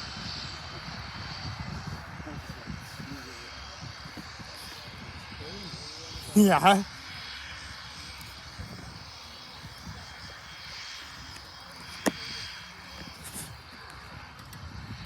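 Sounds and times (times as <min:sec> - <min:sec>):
distant aircraft engine: 0:00.0 - 0:15.0.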